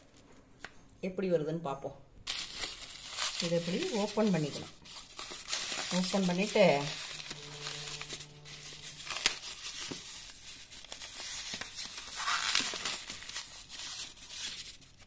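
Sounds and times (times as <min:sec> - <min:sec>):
cling film crinkling and tearing: 0:02.2 - 0:15.0.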